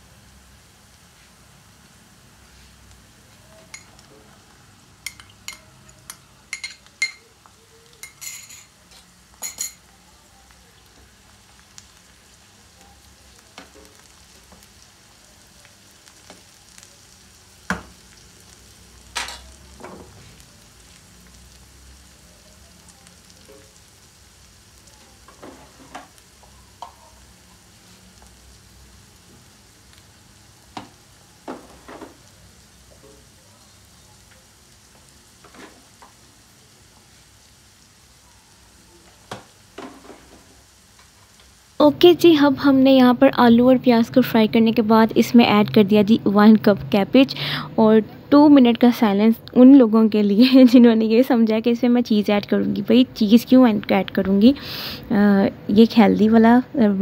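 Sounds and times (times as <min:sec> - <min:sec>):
faint frying sizzle: 0:00.0 - 0:57.0.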